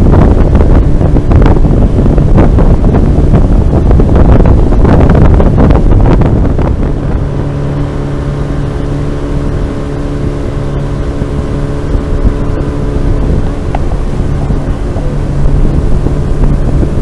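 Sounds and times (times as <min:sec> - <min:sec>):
outboard motor droning: 0:00.0 - 0:17.0
wind buffeting microphone: 0:00.0 - 0:17.0.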